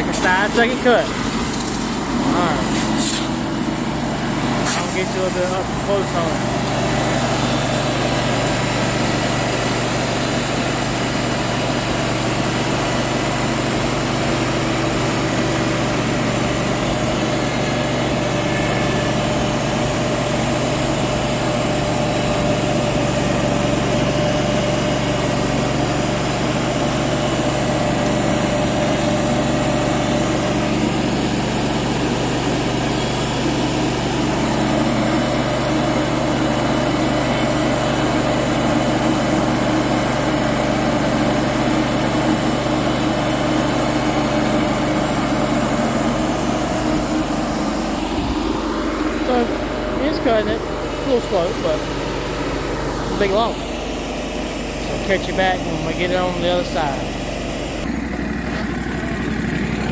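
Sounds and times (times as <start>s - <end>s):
band saw cutting log: 0.0s - 59.9s
sawmill engine running: 0.0s - 59.9s.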